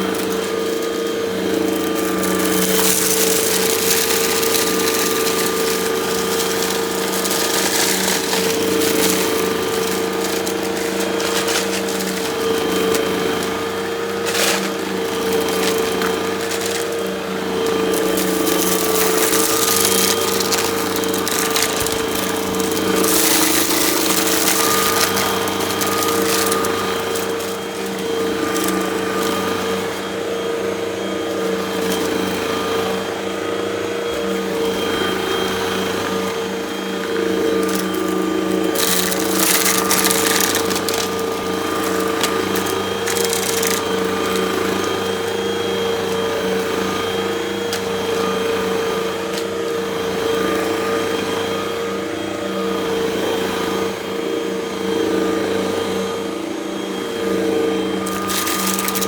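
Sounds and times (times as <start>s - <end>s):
debris crackling through hose: 0.0s - 33.0s, 34.1s - 50.8s, 58.0s - 59.0s
vacuum cleaner motor hum: 0.0s - 59.0s.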